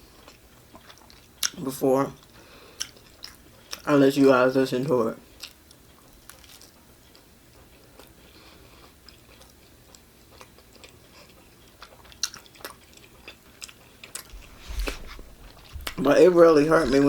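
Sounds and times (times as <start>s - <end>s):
person chewing food: 0.1s - 1.6s, 2.2s - 3.9s, 5.3s - 17.0s.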